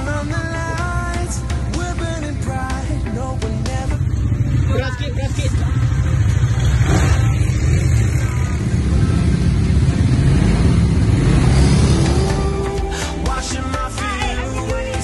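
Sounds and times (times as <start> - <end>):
quad bike engine rumbling: 0.0 - 15.0.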